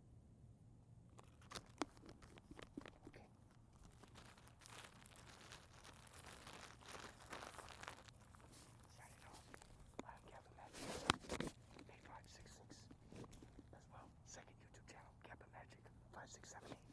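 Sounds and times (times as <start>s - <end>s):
faint crackling and rustling: 0.9s - 16.9s.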